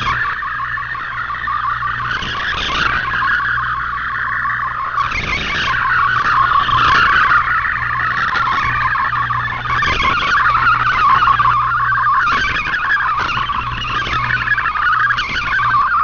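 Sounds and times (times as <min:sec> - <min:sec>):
low steady hum: 0:00.0 - 0:16.0
radio static hiss: 0:00.0 - 0:16.0
warbling digital radio tones: 0:00.0 - 0:16.0.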